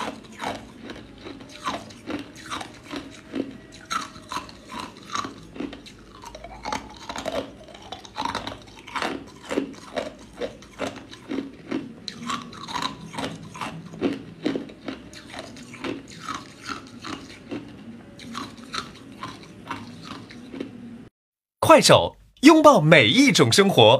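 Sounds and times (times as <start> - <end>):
ice cubes crunching being chewed: 0.0 - 20.8.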